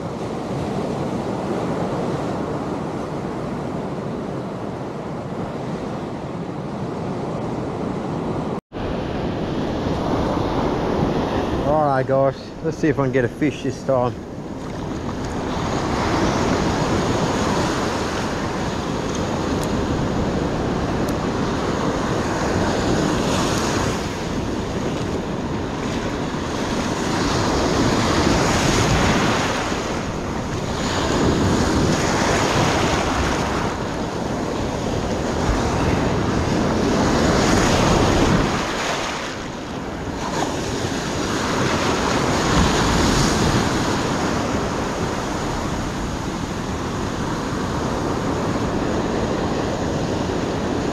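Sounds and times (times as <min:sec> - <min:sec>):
wind buffeting microphone: 0:00.0 - 0:50.9
surf breaking on beach: 0:08.8 - 0:50.9.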